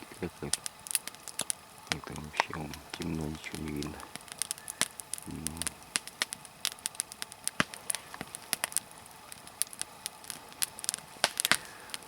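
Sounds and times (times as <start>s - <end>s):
log fire crackling: 0.0s - 12.0s
wood popping and snapping: 0.4s - 12.0s.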